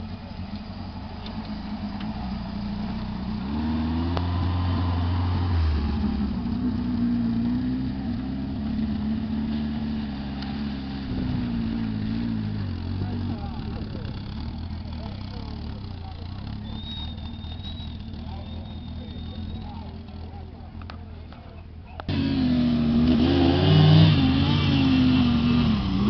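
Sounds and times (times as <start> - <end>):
off-road vehicle engine under load: 0.0 - 26.0.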